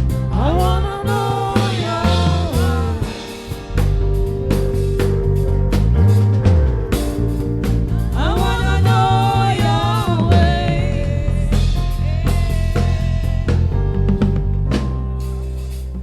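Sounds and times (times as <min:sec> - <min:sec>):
bass: 0:00.0 - 0:16.0
drum kit beat: 0:00.0 - 0:16.0
person singing: 0:00.0 - 0:16.0.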